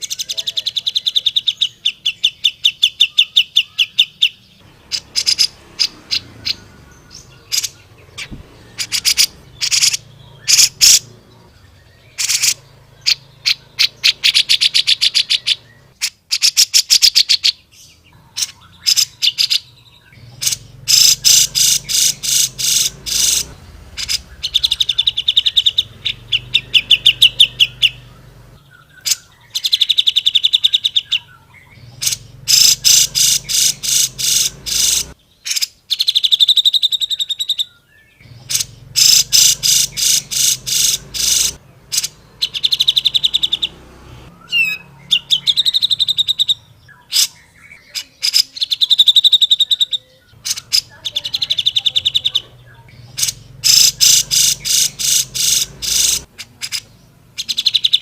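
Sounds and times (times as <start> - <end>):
bird song with buzzy trill: 0.0 - 58.0.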